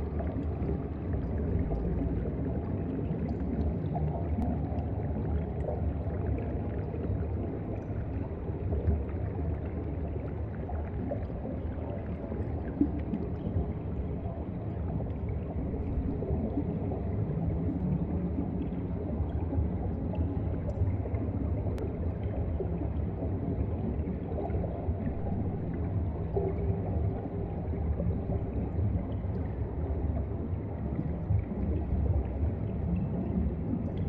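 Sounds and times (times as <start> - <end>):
underwater rumble of moving water: 0.0 - 34.0.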